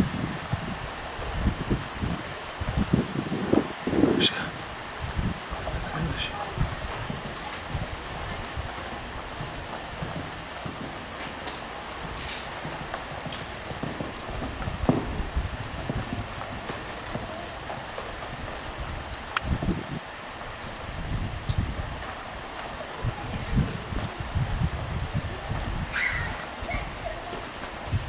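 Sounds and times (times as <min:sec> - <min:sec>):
pouring rain: 0:00.0 - 0:28.0
sharp clicks of raindrops: 0:00.0 - 0:28.0.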